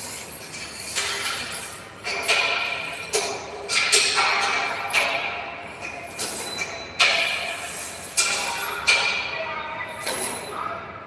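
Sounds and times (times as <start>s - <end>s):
metal clanks on steel frame: 0.0s - 9.4s.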